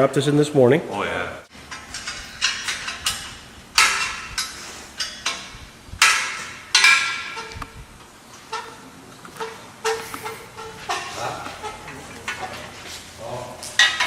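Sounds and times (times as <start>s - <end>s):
metal tools clanking: 1.5s - 7.7s, 8.4s - 14.0s.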